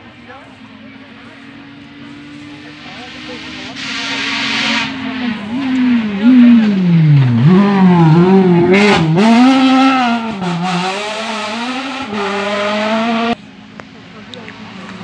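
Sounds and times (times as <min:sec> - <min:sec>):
engine crackle: 0:00.0 - 0:15.0
rally car engine revving: 0:00.0 - 0:15.0.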